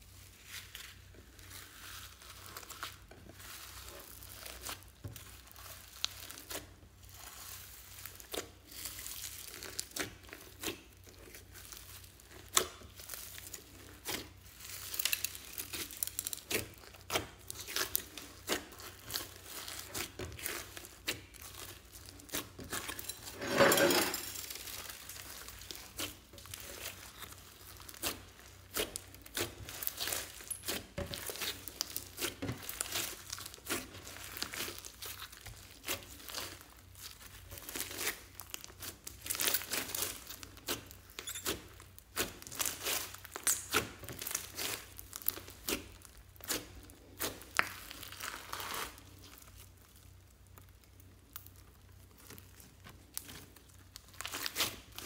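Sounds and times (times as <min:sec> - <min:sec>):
slime squelching: 0:00.2 - 0:55.0
foam beads crunching: 0:00.4 - 0:55.0.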